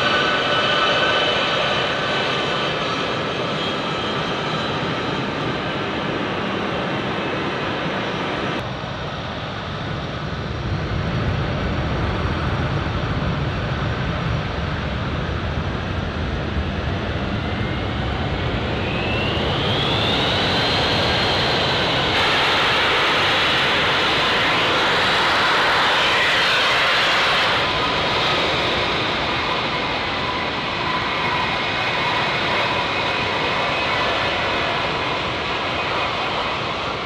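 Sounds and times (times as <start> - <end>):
jet engines at takeoff power: 0.0 - 37.0.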